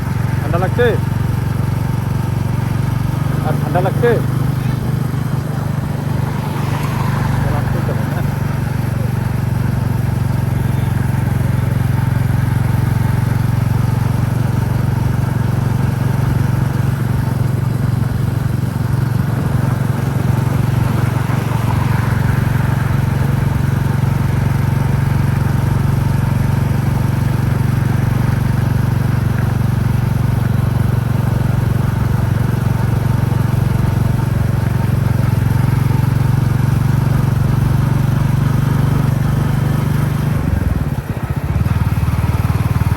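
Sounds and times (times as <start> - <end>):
motorcycle engine thumping: 0.0 - 42.9
wind and road noise: 0.0 - 42.9.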